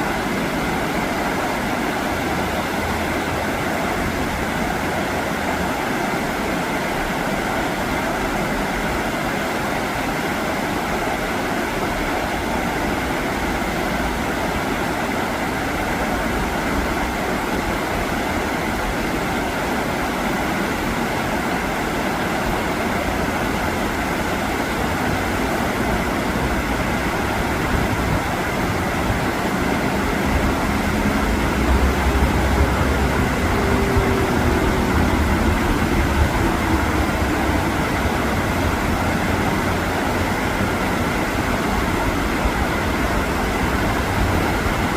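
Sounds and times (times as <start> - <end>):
river current rushing: 0.0 - 44.9.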